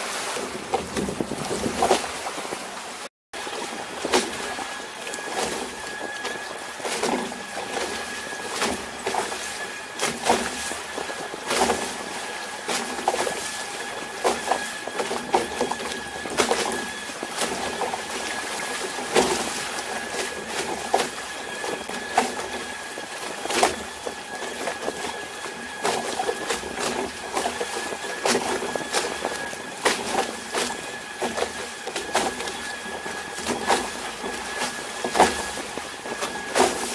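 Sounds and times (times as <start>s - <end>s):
wind and water rushing: 0.0s - 36.9s.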